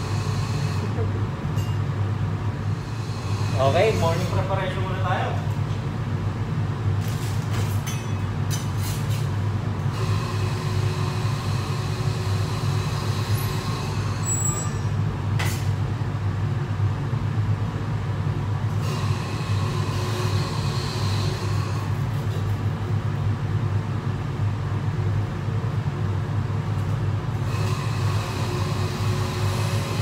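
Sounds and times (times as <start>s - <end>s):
extraction fan rumbling: 0.0s - 30.0s.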